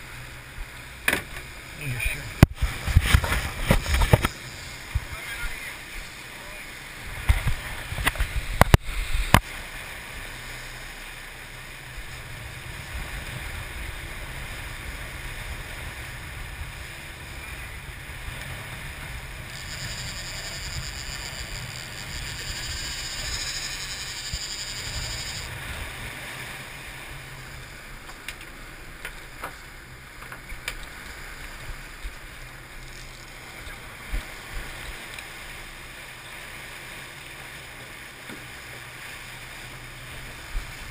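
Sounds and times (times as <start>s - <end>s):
boat engine rumble: 0.0s - 40.9s
churning wake water: 0.0s - 40.9s.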